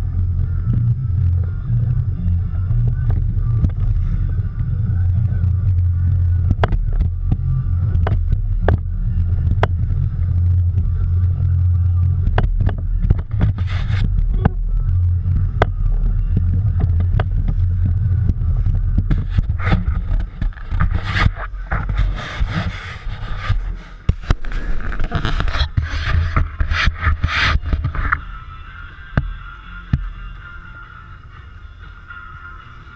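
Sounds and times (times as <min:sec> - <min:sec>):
boat engine drone: 0:00.0 - 0:32.9.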